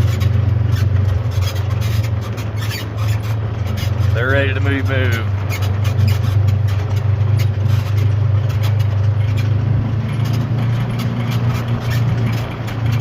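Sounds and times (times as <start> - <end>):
rattles and knocks: 0.0 - 13.0
vehicle engine droning: 0.0 - 13.0.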